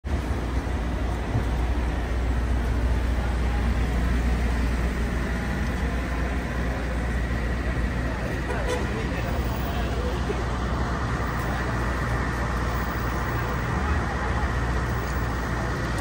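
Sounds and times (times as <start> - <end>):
road traffic rumble: 0.0 - 16.0
street background hum: 0.0 - 16.0.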